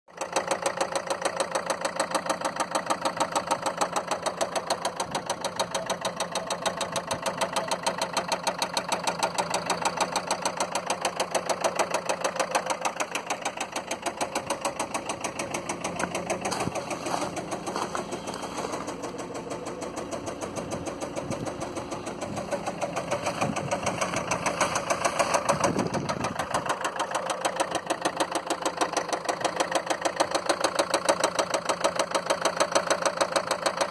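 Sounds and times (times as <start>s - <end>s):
diesel engine knocking clatter: 0.1s - 33.9s.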